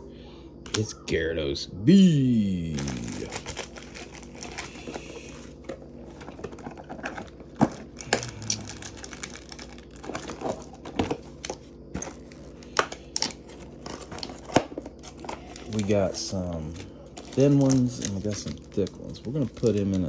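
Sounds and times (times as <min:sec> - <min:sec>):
trading cards crinkling and rustling: 0:02.5 - 0:20.0.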